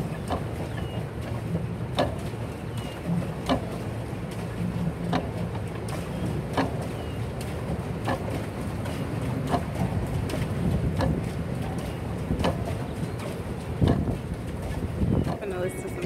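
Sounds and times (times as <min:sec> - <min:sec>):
water and wind rumble: 0:00.0 - 0:16.0.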